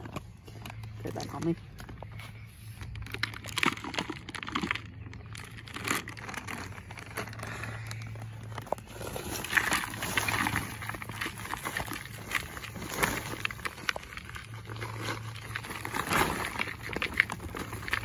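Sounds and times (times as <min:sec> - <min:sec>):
plastic bag crinkling: 0:02.7 - 0:18.0.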